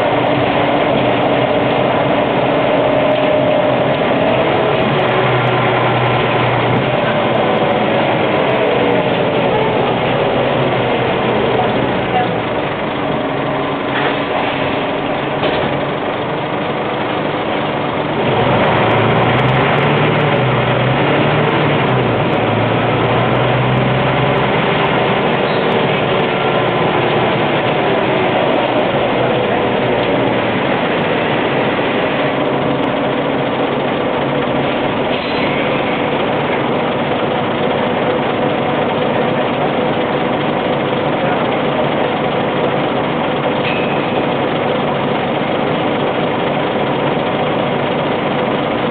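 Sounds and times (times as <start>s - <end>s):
bus engine running: 0.0s - 48.9s
road noise: 0.0s - 48.9s.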